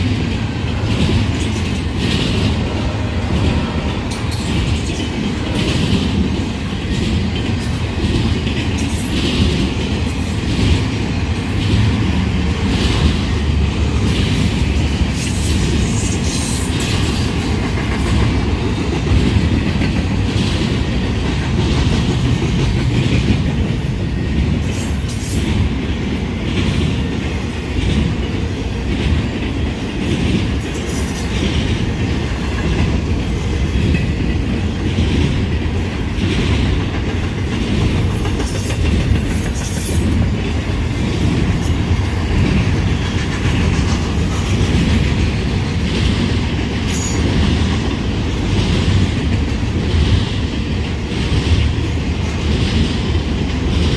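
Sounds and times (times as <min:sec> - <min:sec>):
freight train rumble: 0:00.0 - 0:53.9
train wheels clacking over rail joints: 0:00.0 - 0:53.9.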